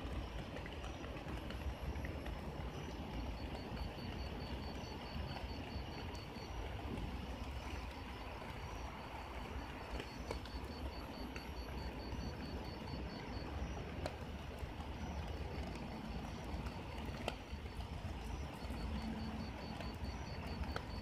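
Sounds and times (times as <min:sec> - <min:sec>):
rapid pulsing chirp: 0:00.0 - 0:21.0.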